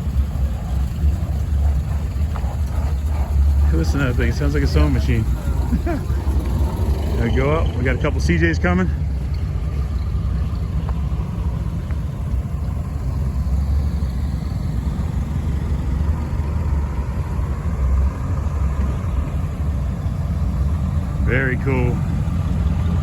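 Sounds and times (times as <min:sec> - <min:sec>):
car engines low rumble: 0:00.0 - 0:23.0.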